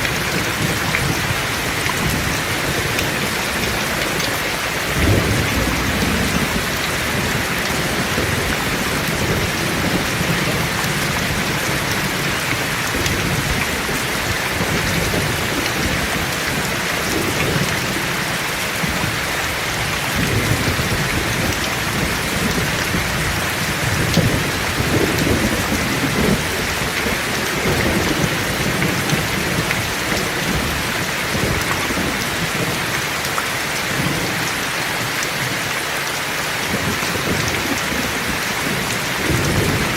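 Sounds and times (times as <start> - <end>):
thunder rumbling: 0.0 - 32.8, 36.7 - 39.9
heavy rain hissing: 0.0 - 39.9.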